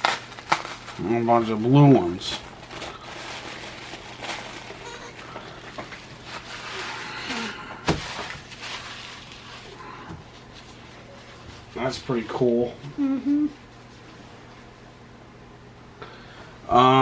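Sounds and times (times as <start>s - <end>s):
packaging rustling: 0.0s - 14.5s.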